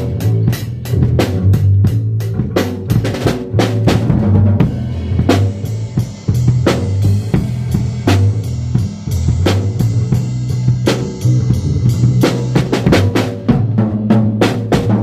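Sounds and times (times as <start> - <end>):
drum kit beat: 0.0 - 15.0
sustained bass notes: 0.0 - 15.0.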